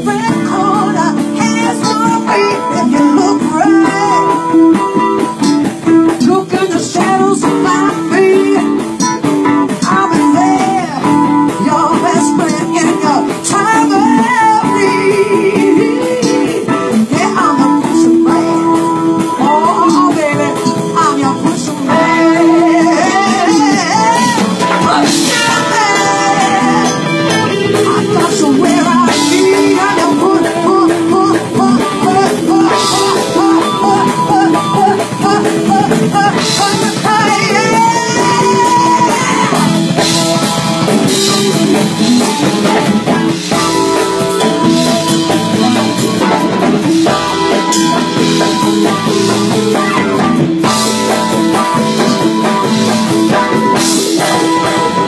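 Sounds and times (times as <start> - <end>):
blues rock band playing: 0.0 - 55.0
person singing: 0.0 - 55.0.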